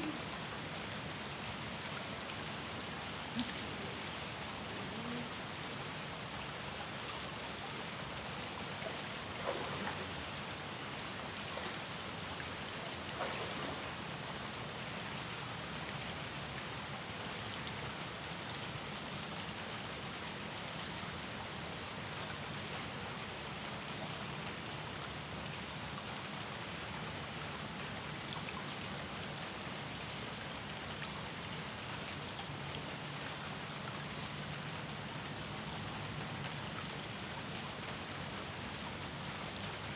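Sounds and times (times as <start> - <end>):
rain falling on pond: 0.0 - 39.9.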